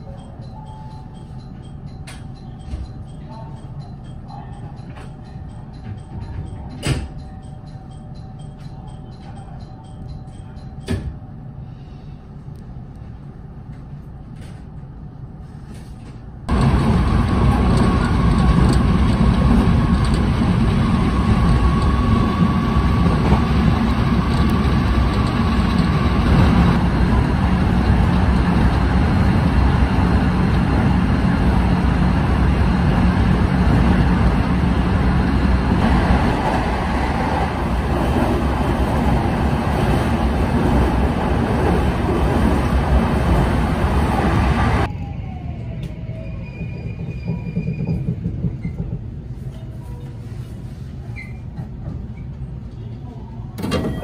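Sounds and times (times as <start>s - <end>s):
electric train rumble: 0.0s - 50.0s.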